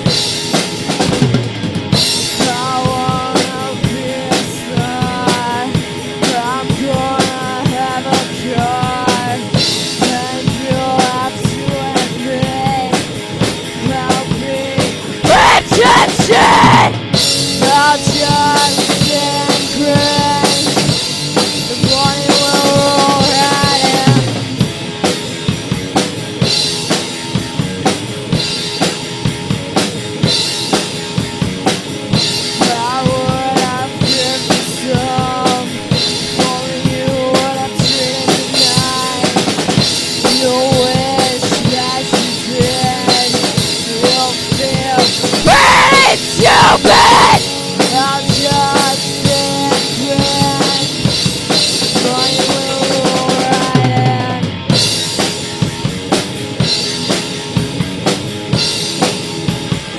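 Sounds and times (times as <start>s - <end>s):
drum kit beat: 0.0s - 59.9s
electric guitar riff: 0.0s - 59.9s.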